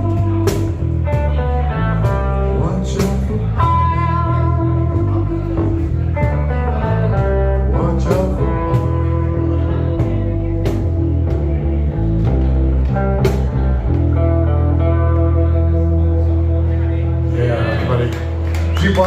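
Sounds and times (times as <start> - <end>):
slow blues guitar: 0.0 - 19.0.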